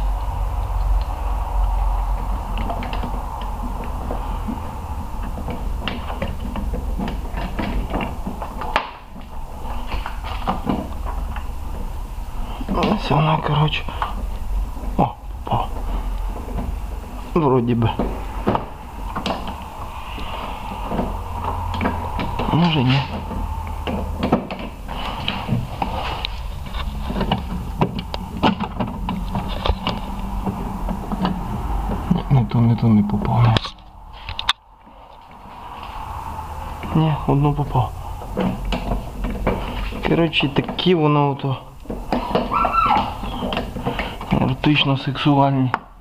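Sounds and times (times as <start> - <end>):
low rumble: 0.0 - 45.4
steady low hum: 0.0 - 46.0.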